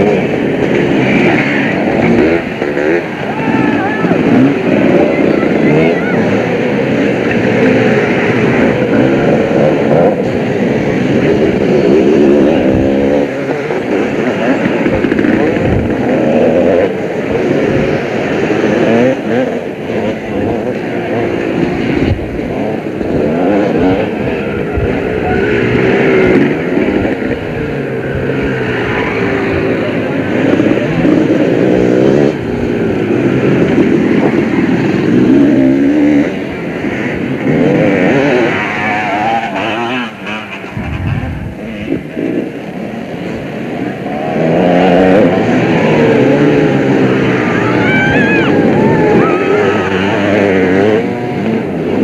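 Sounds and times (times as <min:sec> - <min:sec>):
motocross bike engines revving: 0:00.0 - 0:52.0.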